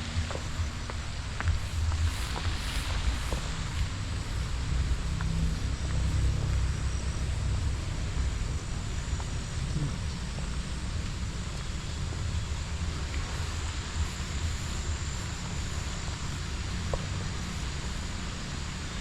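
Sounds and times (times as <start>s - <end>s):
even hiss: 0.0s - 19.0s
low outdoor rumble: 0.0s - 19.0s.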